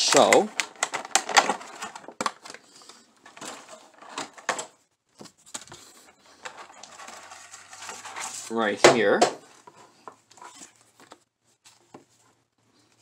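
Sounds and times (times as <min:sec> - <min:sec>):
plastic crinkling and tapping: 0:00.0 - 0:12.2.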